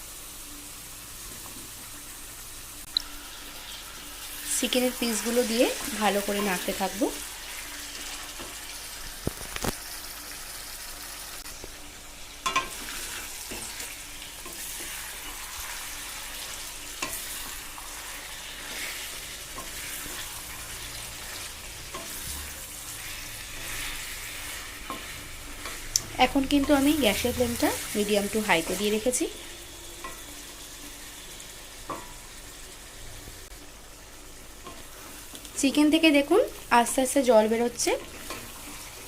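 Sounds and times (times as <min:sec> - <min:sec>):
chicken sizzling in hot oil: 0:00.0 - 0:39.0.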